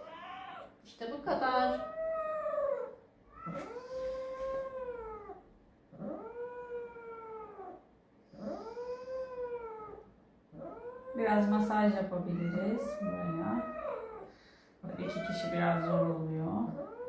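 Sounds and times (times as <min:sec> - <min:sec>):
cat yowling: 0:00.0 - 0:00.8, 0:01.4 - 0:07.8, 0:08.4 - 0:17.0.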